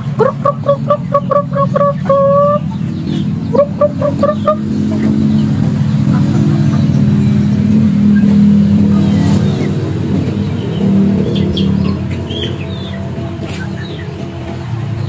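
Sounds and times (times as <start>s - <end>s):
engine humming: 0.0s - 15.0s
small birds chirping: 0.0s - 15.0s.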